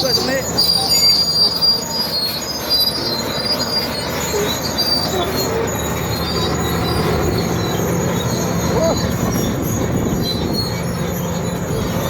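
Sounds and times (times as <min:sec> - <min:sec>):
bulldozer diesel engine: 0:00.0 - 0:12.0
steel tracks grinding and squealing: 0:00.0 - 0:12.0.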